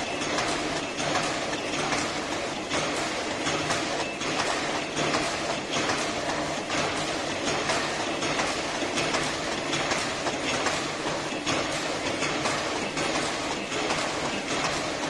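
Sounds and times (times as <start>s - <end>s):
machine clattering with rapid clicks: 0.0s - 15.0s.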